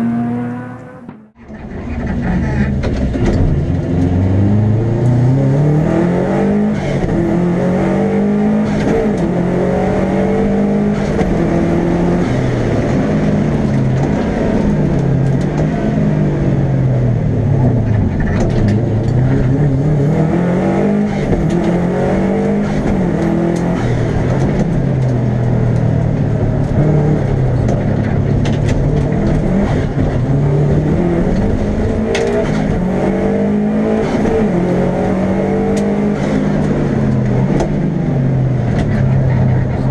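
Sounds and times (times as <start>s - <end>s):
turbocharged car engine revving: 0.0s - 39.9s.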